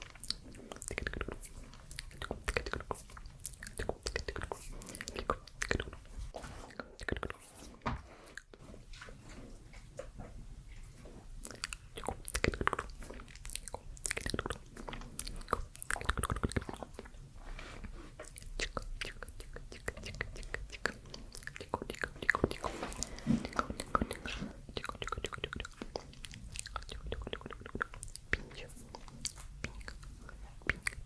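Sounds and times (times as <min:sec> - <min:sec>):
mouth clicks and smacks: 0:00.0 - 0:17.4, 0:18.1 - 0:31.0.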